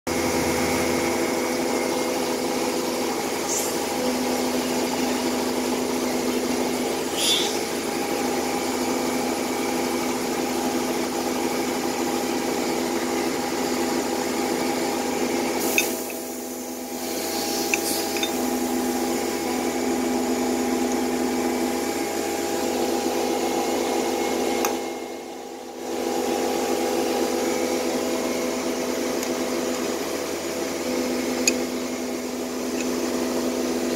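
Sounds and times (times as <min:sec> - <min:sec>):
machinery humming: 0:00.1 - 0:33.9.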